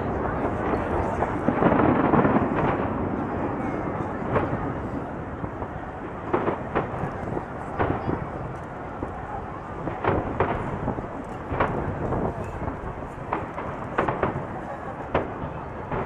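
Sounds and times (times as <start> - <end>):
continuous rolling rumble: 0.0 - 16.0
distant firework shells bursting: 0.4 - 16.0.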